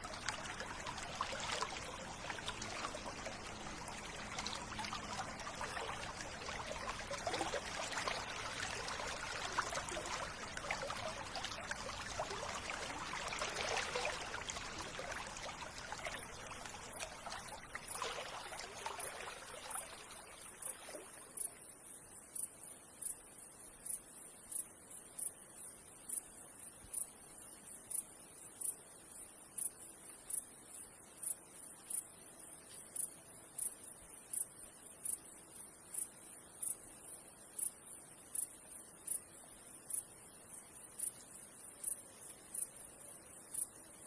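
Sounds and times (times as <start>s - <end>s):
stream water trickling and splashing: 0.0s - 44.0s.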